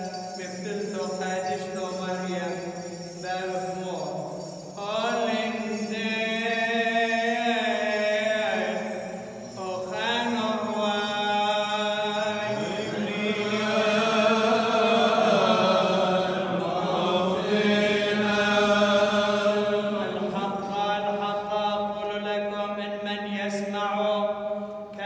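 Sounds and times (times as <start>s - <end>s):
men chanting a hymn: 4.8s - 25.0s.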